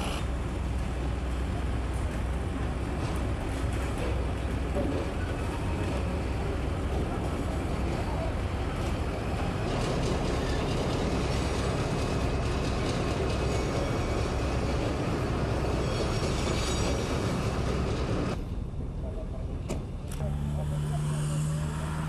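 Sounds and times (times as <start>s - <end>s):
locomotive engine rumble: 0.0s - 22.0s.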